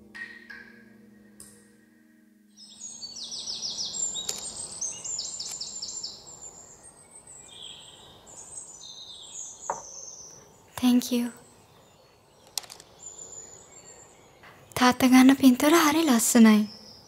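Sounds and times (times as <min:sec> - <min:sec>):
outdoor ambience hiss: 0:00.0 - 0:17.0
small birds chirping: 0:02.6 - 0:17.0.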